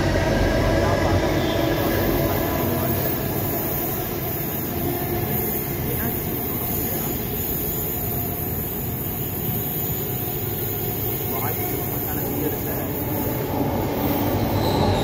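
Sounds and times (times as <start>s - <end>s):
metro train pulling away: 0.0s - 15.0s.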